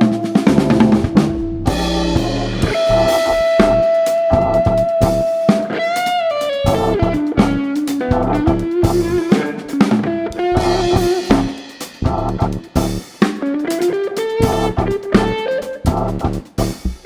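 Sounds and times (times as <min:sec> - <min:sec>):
electric guitar lead bending notes: 0:00.0 - 0:17.0
funk band playing: 0:00.0 - 0:17.0.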